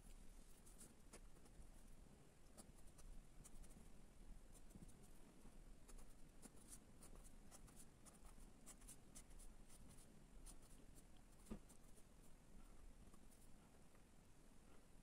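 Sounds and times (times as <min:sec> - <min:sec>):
pen scratching on paper: 0:00.0 - 0:01.9, 0:02.6 - 0:03.9, 0:04.5 - 0:13.6.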